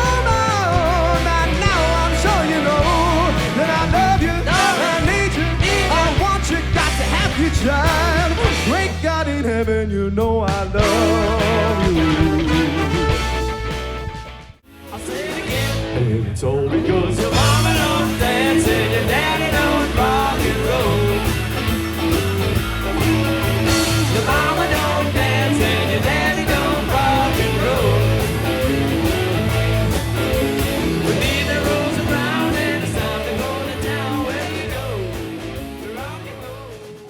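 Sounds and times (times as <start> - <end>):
bending electric guitar: 0.0 - 9.3, 10.8 - 37.0
person singing ad-libs: 0.0 - 13.1, 14.9 - 21.7, 22.8 - 29.1, 31.0 - 37.0
rock band playing live: 0.0 - 37.0.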